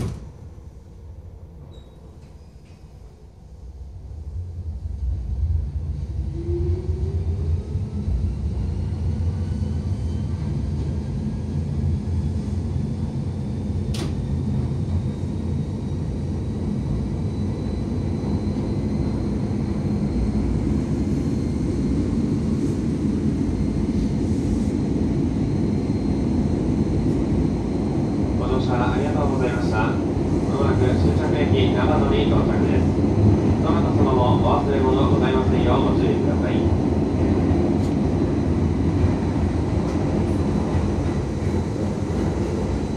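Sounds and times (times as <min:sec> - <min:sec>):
train wheels and motors rumbling: 0:00.0 - 0:42.9.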